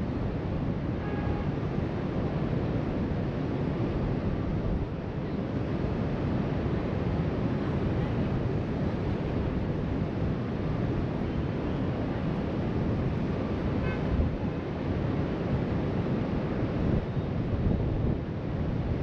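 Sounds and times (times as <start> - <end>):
wind buffeting microphone: 2.9 - 19.0.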